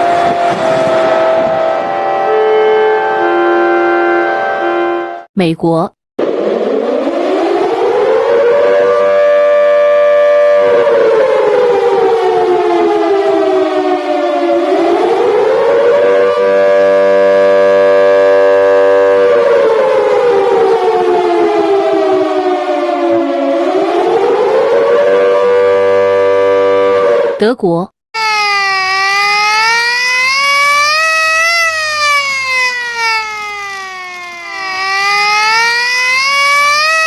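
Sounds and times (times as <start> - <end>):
air-raid siren wailing: 0.0 - 5.3, 6.2 - 27.4, 28.2 - 37.0.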